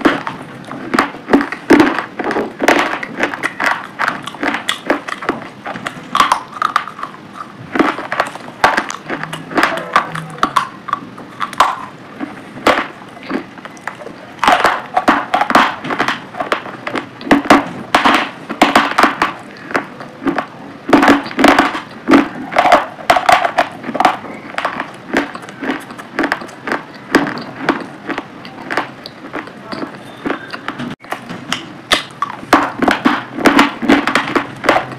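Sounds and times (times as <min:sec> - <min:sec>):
crunching and chewing crisp food: 0:00.0 - 0:34.9.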